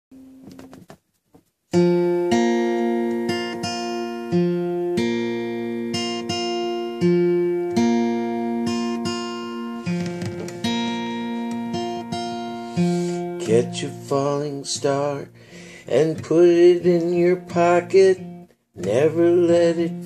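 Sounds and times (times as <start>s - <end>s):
acoustic guitar strumming chords: 1.7s - 20.0s.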